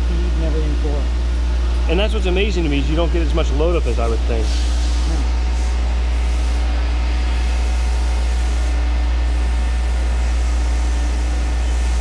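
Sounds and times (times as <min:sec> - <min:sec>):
grinding wheel and coolant hiss: 0:00.0 - 0:12.0
low machine hum: 0:00.0 - 0:12.0.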